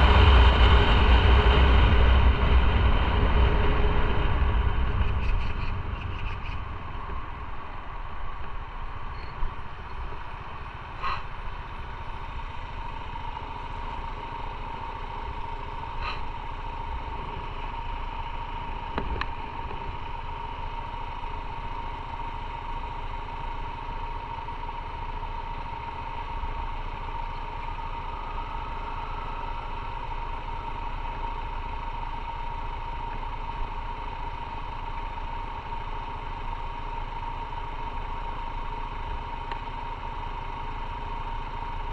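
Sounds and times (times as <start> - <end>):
motorcycle engine whining: 0.0 - 41.9.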